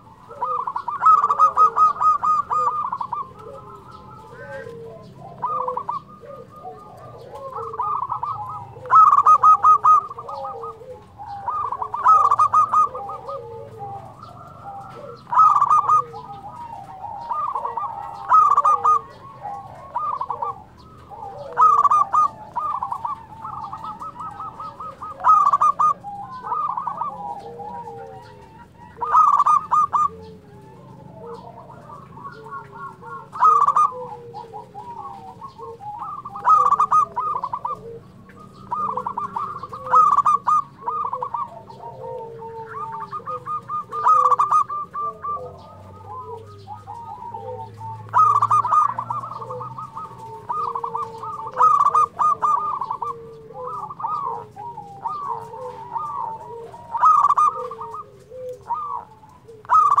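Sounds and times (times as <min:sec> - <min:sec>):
doves cooing: 0:00.0 - 1:00.0.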